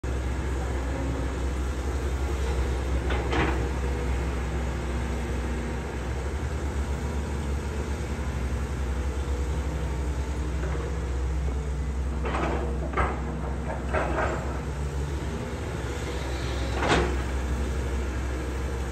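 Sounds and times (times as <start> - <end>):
excavator diesel engine rumble: 0.1 - 18.9.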